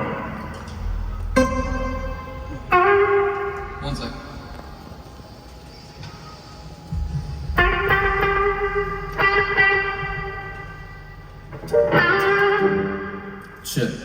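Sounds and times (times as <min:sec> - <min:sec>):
electric guitar chords ringing: 0:00.0 - 0:05.4, 0:06.4 - 0:14.0.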